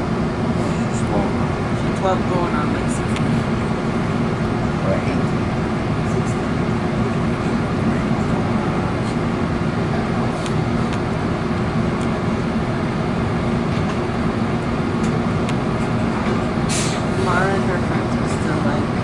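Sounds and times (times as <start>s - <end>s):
train rumble inside coach: 0.0s - 19.0s.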